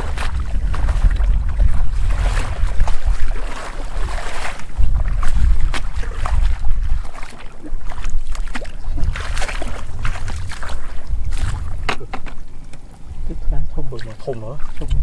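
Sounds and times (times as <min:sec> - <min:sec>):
water splashing from wading: 0:00.0 - 0:15.0
wind rumble on microphone: 0:00.0 - 0:15.0.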